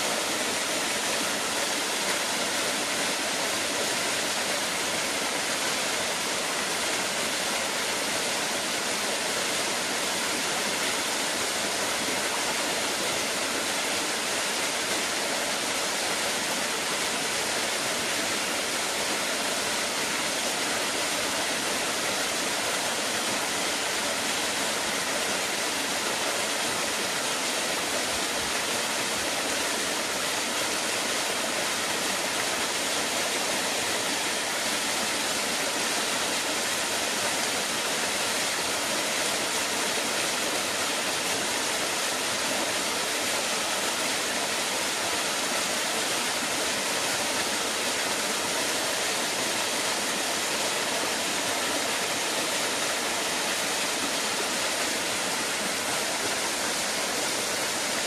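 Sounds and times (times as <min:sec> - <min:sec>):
small waterfall splashing into pool: 0:00.0 - 0:58.0.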